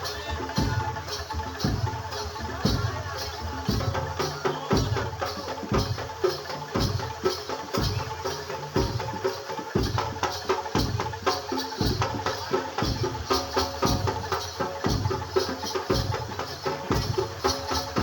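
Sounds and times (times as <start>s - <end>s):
fast clicking percussion: 0.0s - 18.0s
heavy low drum strokes: 0.0s - 18.0s.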